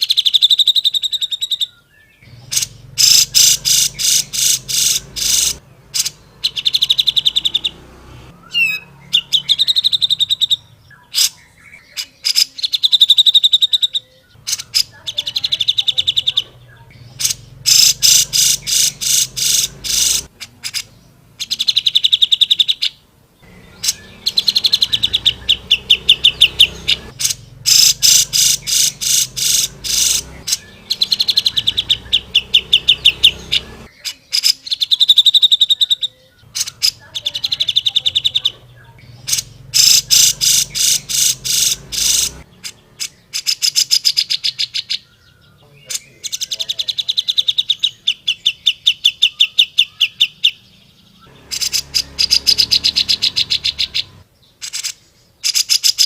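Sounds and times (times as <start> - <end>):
bulbul singing sharp chattering notes: 0.0 - 56.0.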